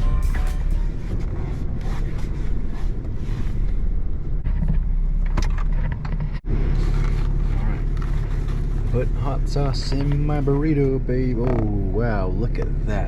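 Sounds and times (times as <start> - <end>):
car engine rumble from inside: 0.0 - 13.0.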